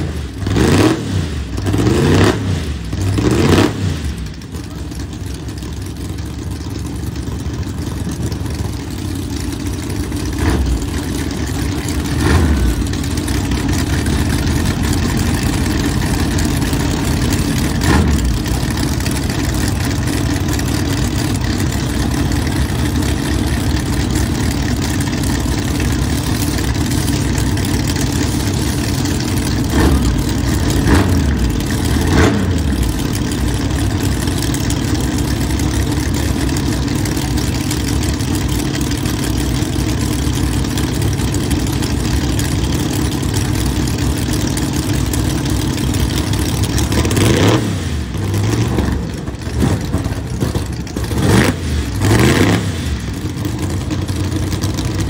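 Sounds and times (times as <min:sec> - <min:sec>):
engine throttle blips: 0:00.0 - 0:55.0
race car engines idling: 0:00.0 - 0:55.0.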